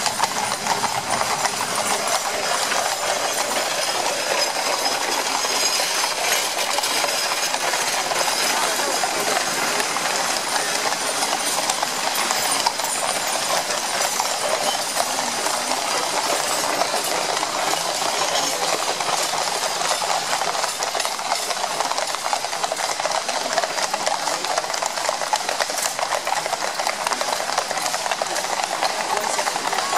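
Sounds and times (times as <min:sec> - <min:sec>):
horse hooves on paved road: 0:00.0 - 0:29.9.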